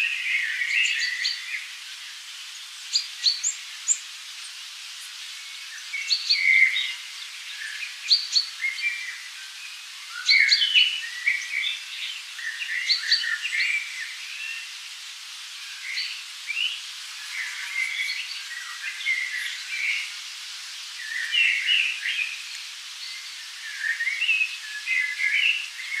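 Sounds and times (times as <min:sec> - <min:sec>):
birds chirping and warbling: 0:00.0 - 0:26.0
faint steady hiss: 0:00.0 - 0:26.0.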